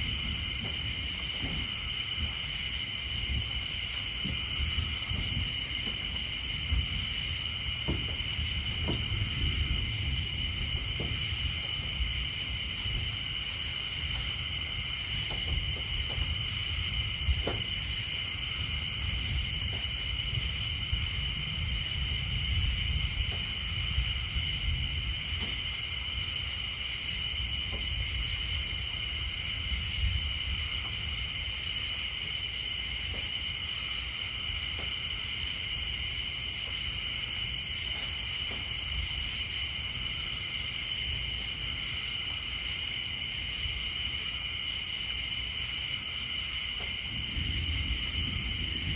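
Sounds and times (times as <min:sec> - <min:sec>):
insects and tree frogs trilling: 0:00.0 - 0:48.9.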